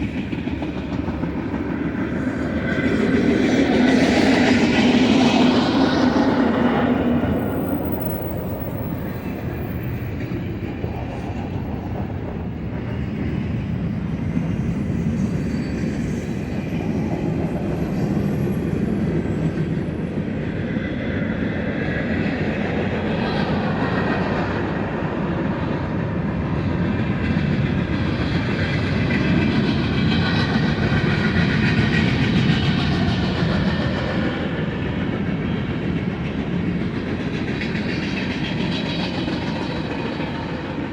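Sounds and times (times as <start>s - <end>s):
freight train wheels on rails: 0.0s - 40.9s.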